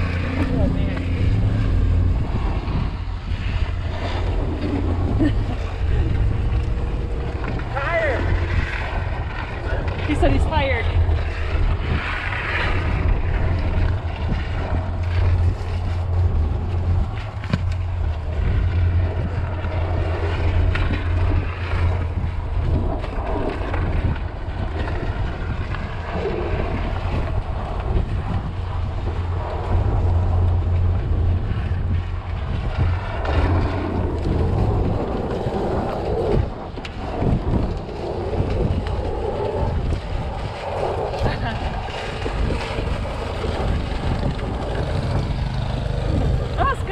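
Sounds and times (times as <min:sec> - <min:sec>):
low vehicle drone: 0:00.0 - 0:46.9
wind buffeting microphone: 0:00.0 - 0:46.9.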